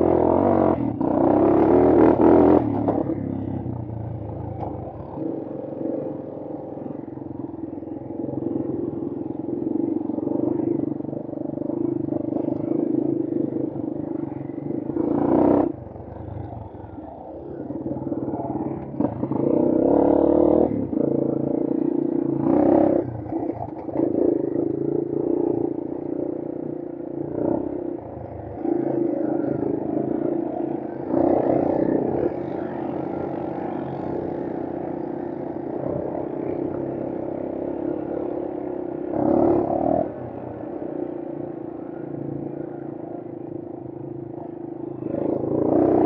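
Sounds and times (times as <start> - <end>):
engine running with throttle changes: 0.0 - 46.0.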